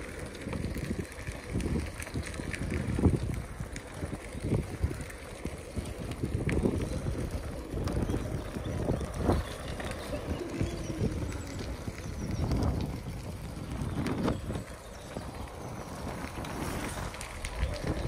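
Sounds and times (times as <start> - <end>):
bicycle frame rattling: 0.0 - 18.0
tyres rumbling on pavement: 0.0 - 18.0.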